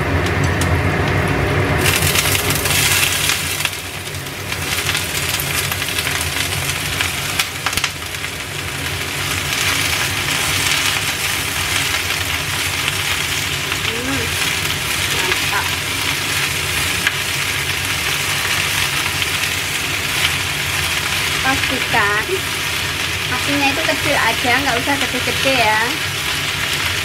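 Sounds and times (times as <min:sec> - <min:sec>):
cabbage sizzling in hot oil: 0:00.0 - 0:27.0
chopsticks stirring in pan: 0:04.5 - 0:27.0.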